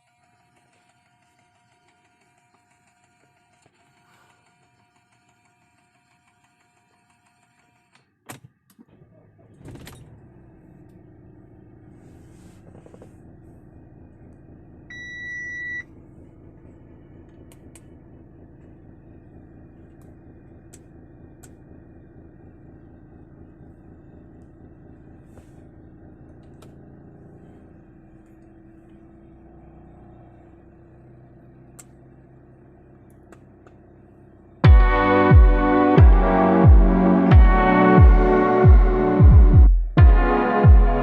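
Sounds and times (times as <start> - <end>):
car engine starting and idling: 0.0 - 41.0.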